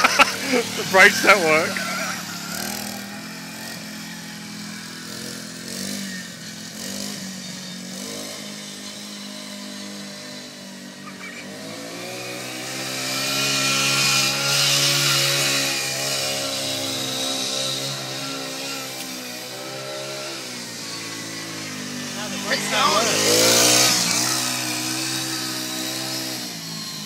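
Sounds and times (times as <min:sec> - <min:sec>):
small petrol engine running: 0:00.0 - 0:27.0.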